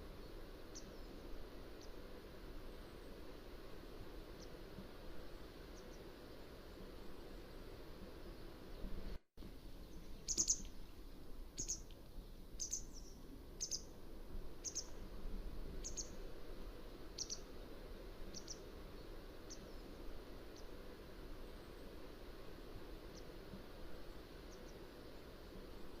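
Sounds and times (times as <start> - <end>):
low background hiss: 0.0 - 26.0.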